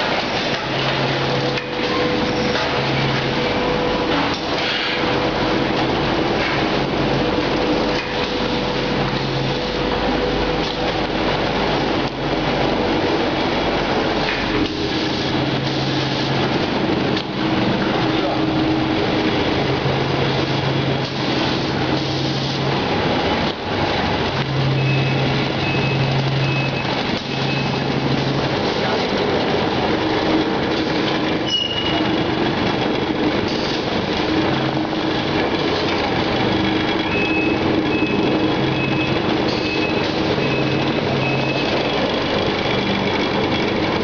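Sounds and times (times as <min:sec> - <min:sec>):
conveyor machinery running: 0:00.0 - 0:44.0.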